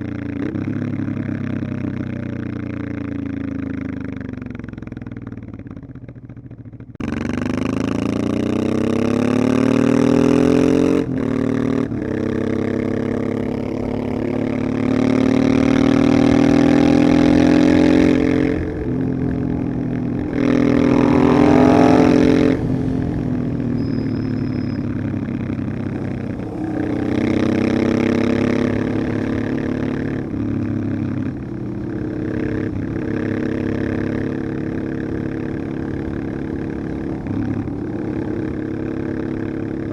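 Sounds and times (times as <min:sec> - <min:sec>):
motorcycle engine pulling under load: 0:07.0 - 0:39.9.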